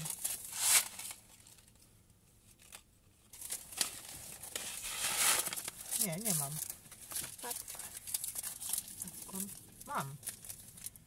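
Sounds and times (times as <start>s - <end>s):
fabric and paper rustling: 0.0s - 1.8s, 2.4s - 11.0s.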